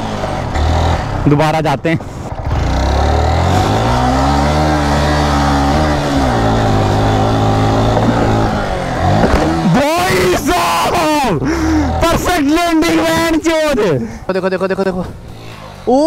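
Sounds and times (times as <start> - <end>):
motorcycle engine running hard: 0.0 - 16.0.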